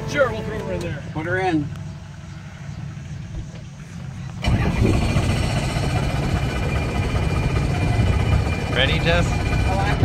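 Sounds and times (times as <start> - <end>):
helicopter engine hum: 1.8 - 10.0.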